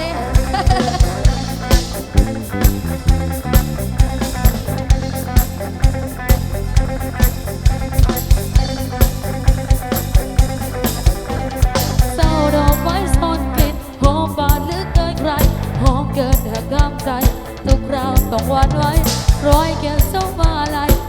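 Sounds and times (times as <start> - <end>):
bass: 0.0 - 21.0
drum-kit beat: 0.0 - 21.0
guitar: 0.0 - 21.0.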